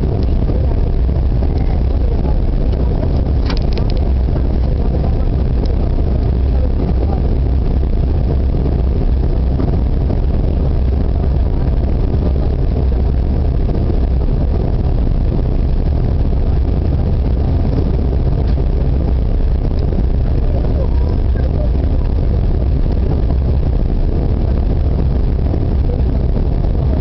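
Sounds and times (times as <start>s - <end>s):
jet cabin roar: 0.0s - 27.0s.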